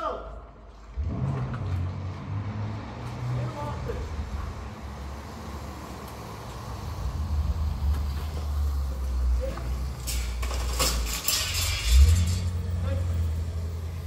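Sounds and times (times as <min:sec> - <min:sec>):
car engine rumbling: 0:00.3 - 0:14.0.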